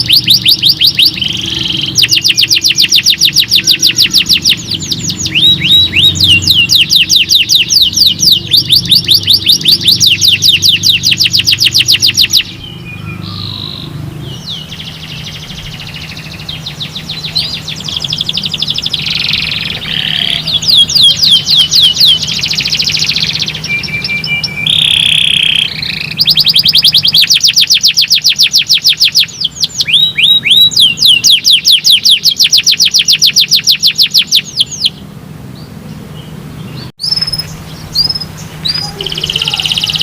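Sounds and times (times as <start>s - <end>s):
canary twittering softly: 0.0s - 35.0s, 36.8s - 40.0s
canary singing fast trills: 0.0s - 40.0s.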